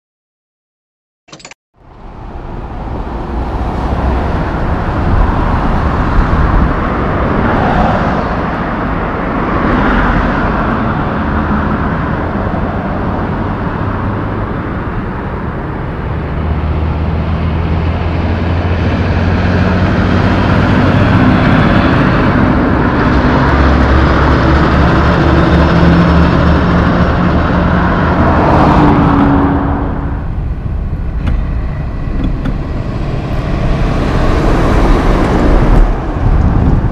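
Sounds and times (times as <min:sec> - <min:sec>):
heavy trucks passing: 0:01.8 - 0:36.9.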